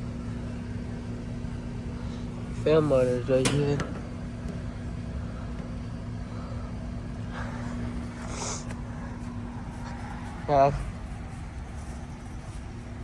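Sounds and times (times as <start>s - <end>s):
heat pump humming: 0.0s - 13.0s.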